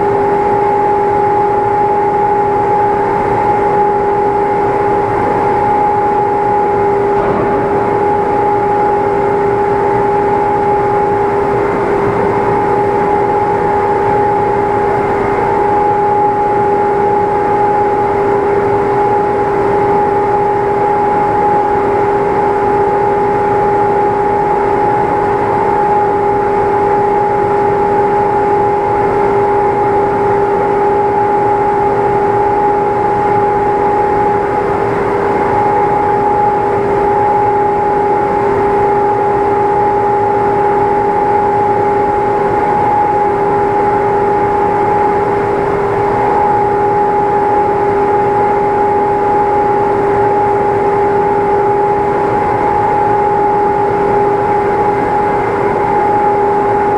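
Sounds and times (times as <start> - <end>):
machine humming: 0.0 - 56.9.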